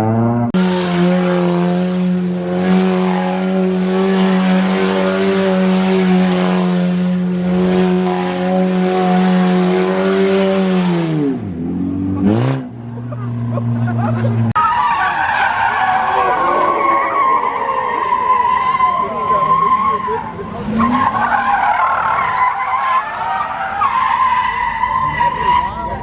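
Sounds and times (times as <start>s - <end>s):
car engine at high revs: 0.0s - 14.6s, 15.5s - 26.0s.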